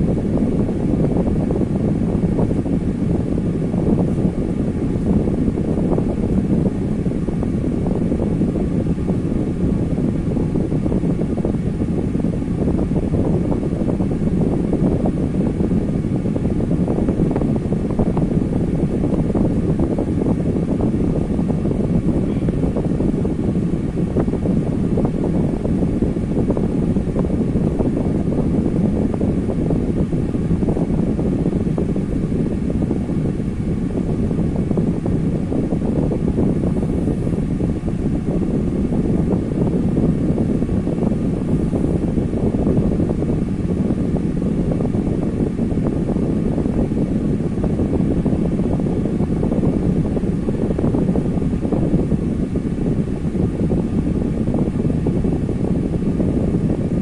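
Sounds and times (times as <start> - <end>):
electric fan wind noise: 0.0 - 57.0.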